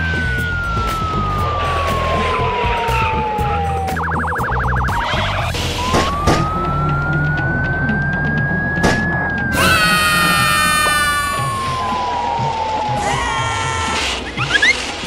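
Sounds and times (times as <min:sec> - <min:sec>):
siren warbling and wailing: 0:00.0 - 0:14.8.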